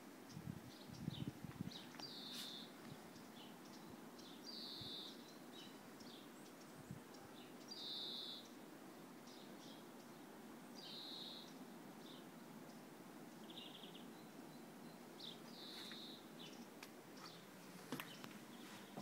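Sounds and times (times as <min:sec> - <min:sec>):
low steady hiss: 0:00.0 - 0:19.0
small birds chirping: 0:00.0 - 0:19.0.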